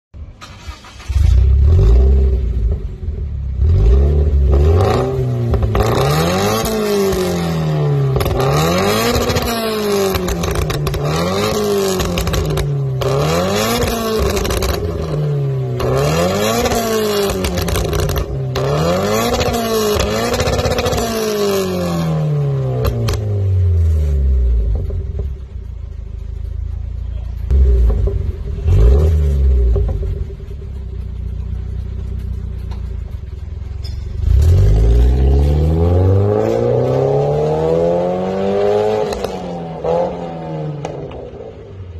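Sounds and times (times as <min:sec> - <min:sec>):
car engine idling and revving: 0:00.2 - 0:41.9.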